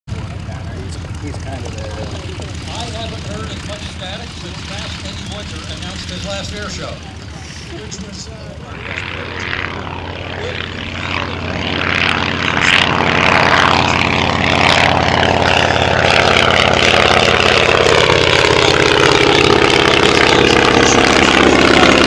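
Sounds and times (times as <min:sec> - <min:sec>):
propeller plane engine droning: 0:00.1 - 0:22.0.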